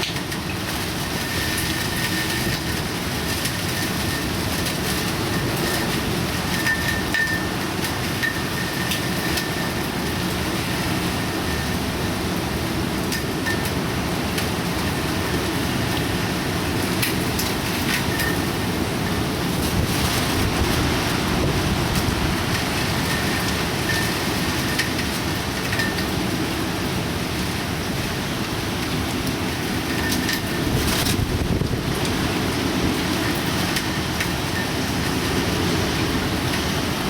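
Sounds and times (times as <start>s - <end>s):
heavy rain rushing: 0.0s - 37.0s.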